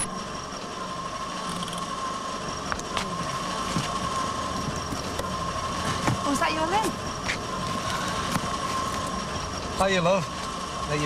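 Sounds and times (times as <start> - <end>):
car engine running: 0.0 - 11.0
steady high whine: 0.0 - 11.0.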